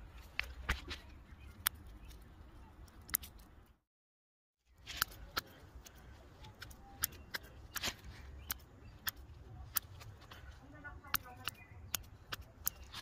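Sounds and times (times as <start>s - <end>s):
scissors snipping plants: 0.3s - 3.6s, 4.8s - 13.0s.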